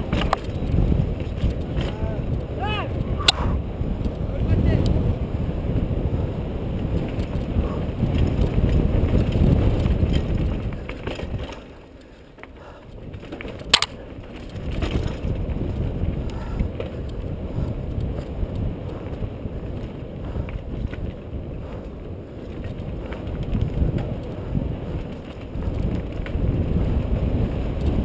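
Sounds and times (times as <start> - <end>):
wind buffeting microphone: 0.0 - 11.8, 12.6 - 28.0
bike tyres and frame rattling: 0.0 - 28.0.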